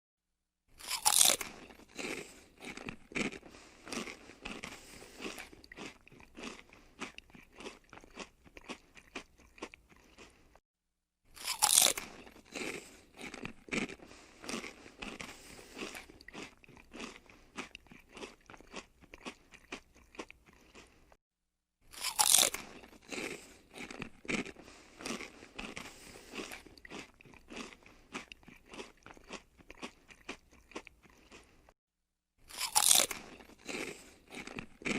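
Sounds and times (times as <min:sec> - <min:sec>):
chewing crunches: 0:00.7 - 0:10.6, 0:11.3 - 0:21.2, 0:21.9 - 0:31.8, 0:32.4 - 0:34.9
crunching bite: 0:00.7 - 0:10.6, 0:11.3 - 0:21.2, 0:21.9 - 0:31.7, 0:32.4 - 0:34.9.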